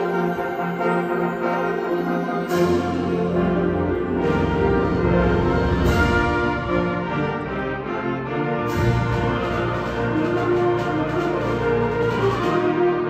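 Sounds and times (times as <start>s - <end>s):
concert band playing sustained chords: 0.0s - 13.0s.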